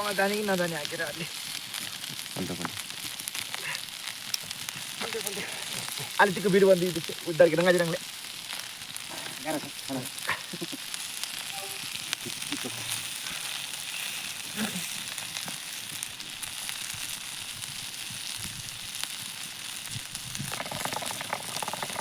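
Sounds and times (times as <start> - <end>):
cooking fire sizzling: 0.0 - 22.0
small crackles: 0.0 - 22.0.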